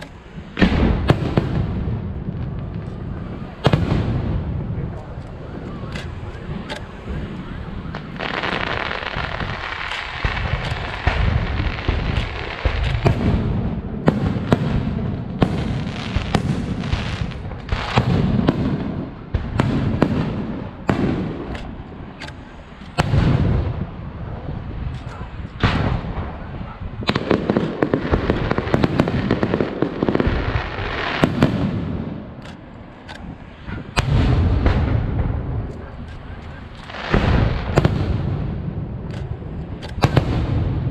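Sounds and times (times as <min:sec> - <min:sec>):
continuous rushing noise: 0:00.0 - 0:40.9
fireworks bangs and booms: 0:00.0 - 0:40.9.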